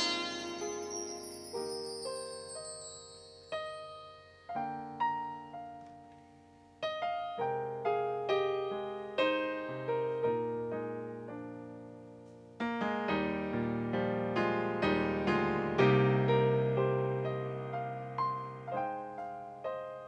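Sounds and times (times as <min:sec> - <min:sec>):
synthesizer piano melody: 0:00.0 - 0:20.0.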